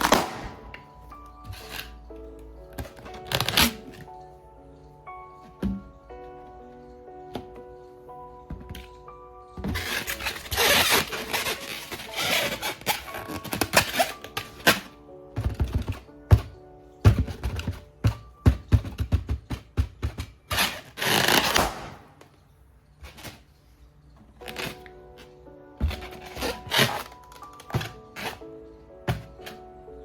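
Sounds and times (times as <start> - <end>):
quiet background music: 0.0 - 30.0.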